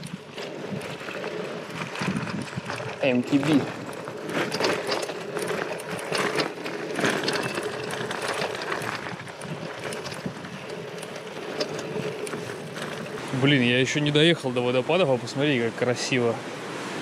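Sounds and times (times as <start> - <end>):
bike rattling over bumps: 0.0 - 16.3
bike tyre noise on dirt: 0.0 - 17.0.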